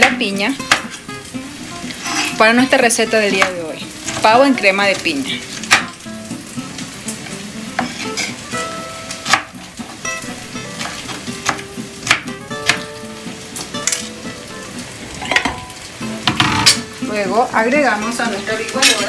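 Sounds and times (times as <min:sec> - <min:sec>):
meat sizzling in fat: 0:00.0 - 0:19.0
soft background music: 0:00.0 - 0:19.0.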